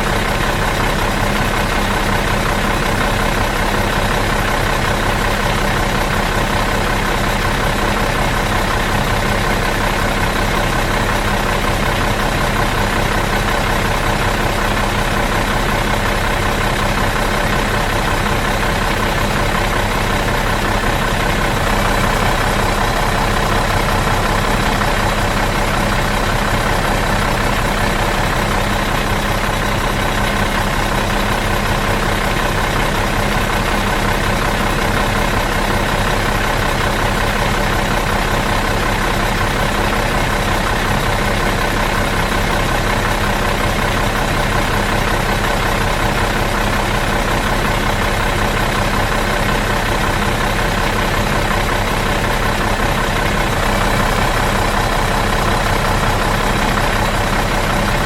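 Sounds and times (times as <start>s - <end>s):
bus engine idling: 0.0s - 58.0s.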